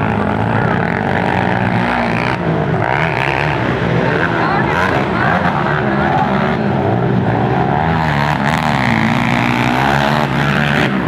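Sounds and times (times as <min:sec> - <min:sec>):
atv engines revving: 0:00.0 - 0:11.0.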